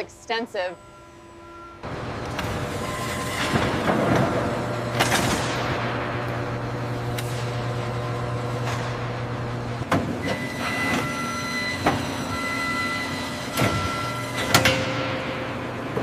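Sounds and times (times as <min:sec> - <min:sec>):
machinery humming and whining: 0:00.0 - 0:16.0.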